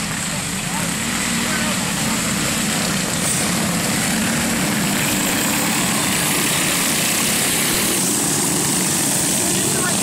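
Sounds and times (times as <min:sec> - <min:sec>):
go-kart engines racing past: 0:00.0 - 0:10.0.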